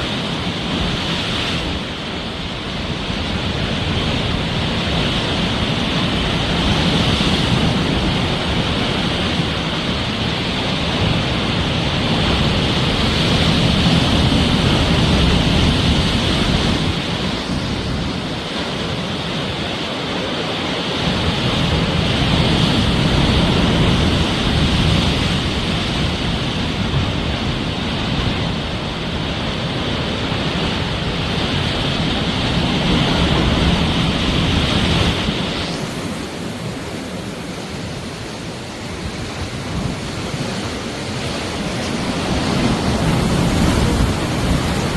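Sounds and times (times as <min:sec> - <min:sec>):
sea waves breaking on shore: 0:00.0 - 0:44.9.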